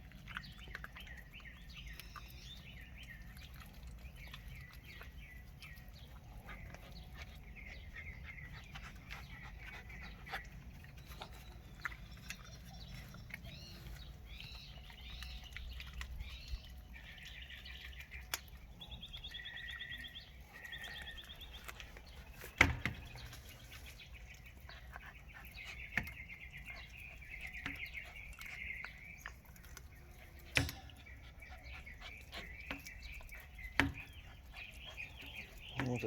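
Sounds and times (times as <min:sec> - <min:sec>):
small songbirds chirping and trilling: 0:00.0 - 0:36.0.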